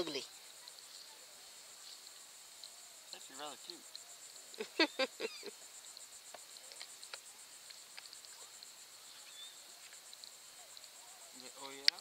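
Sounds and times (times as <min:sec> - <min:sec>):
high pulsing insect trill: 0:00.0 - 0:12.0.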